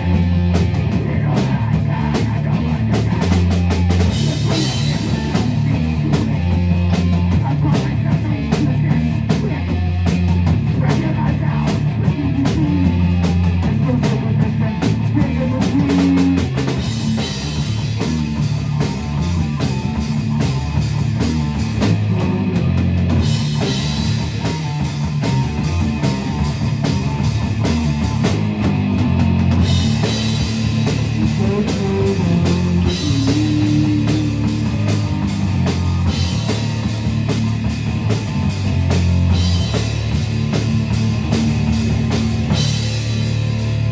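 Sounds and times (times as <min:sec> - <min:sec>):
bass guitar: 0:00.0 - 0:43.9
drum kit: 0:00.0 - 0:43.9
electric guitars: 0:00.0 - 0:43.9.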